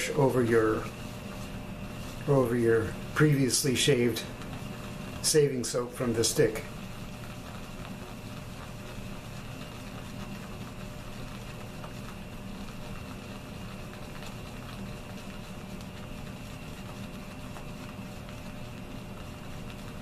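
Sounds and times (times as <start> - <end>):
shaving brush lathering soap: 0.0 - 20.0.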